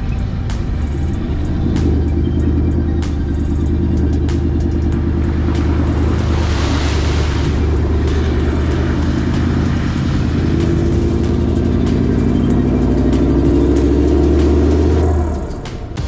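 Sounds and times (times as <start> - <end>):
rush of noise: 0.0 - 16.0
vehicle engine running at low revs: 0.0 - 16.0.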